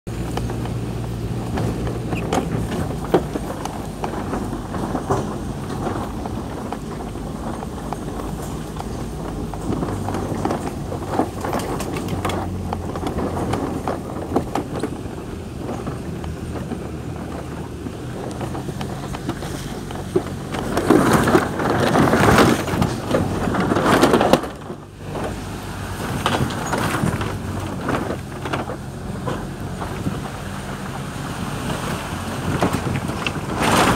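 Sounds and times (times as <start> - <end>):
wind buffeting microphone: 0.1 - 33.9.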